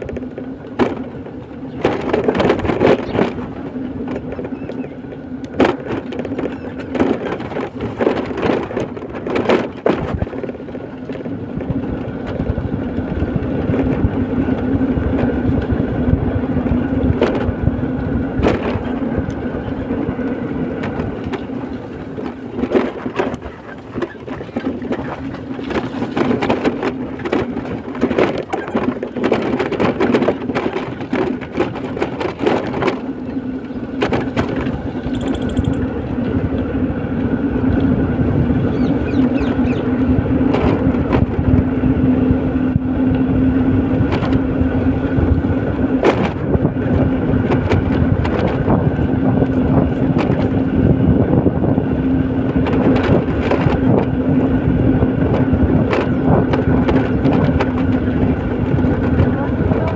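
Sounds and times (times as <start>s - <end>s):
engine and road drone: 0.0s - 59.9s.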